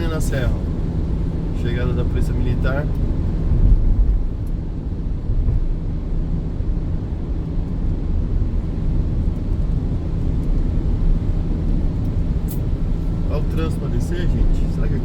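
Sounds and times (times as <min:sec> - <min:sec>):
car engine drone: 0:00.0 - 0:15.0.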